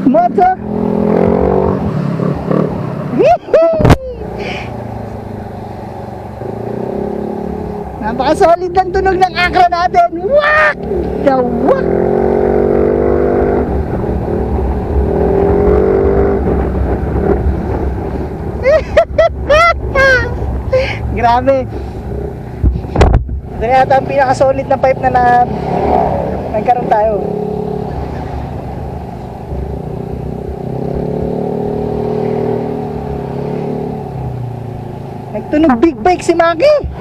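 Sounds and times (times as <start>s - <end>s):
scooter engine drone: 0.0s - 37.0s
low rumble: 1.2s - 33.2s.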